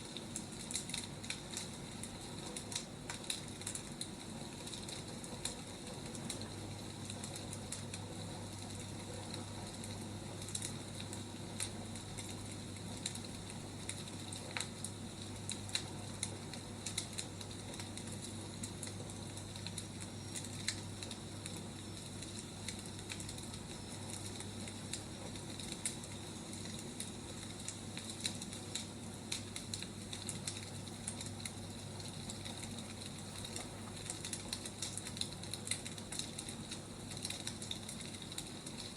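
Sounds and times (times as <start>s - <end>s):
low steady hum: 0.0s - 38.9s
wood fire crackling: 0.0s - 38.9s.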